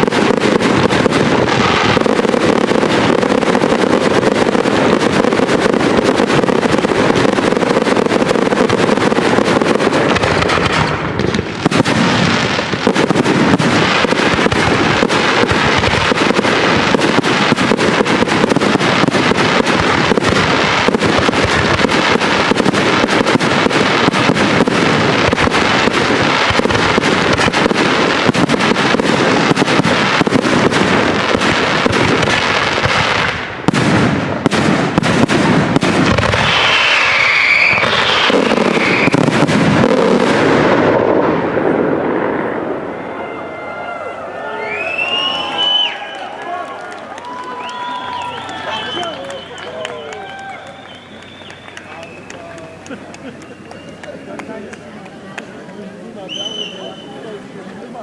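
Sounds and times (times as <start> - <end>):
fireworks bursts and crackling: 0.0 - 58.0.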